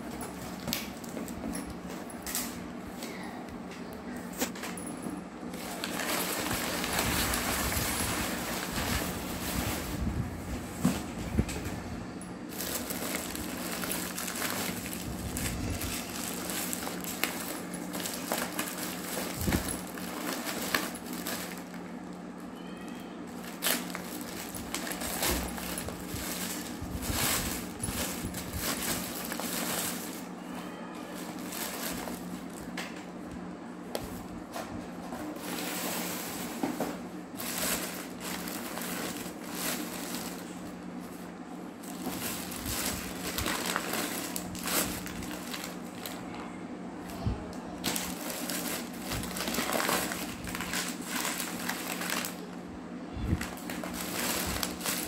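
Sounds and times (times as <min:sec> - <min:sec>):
steady low hum: 0:00.0 - 0:55.0
plastic bags crinkling: 0:05.5 - 0:11.5, 0:12.4 - 0:22.5, 0:23.2 - 0:33.0, 0:35.2 - 0:46.4, 0:47.0 - 0:55.0.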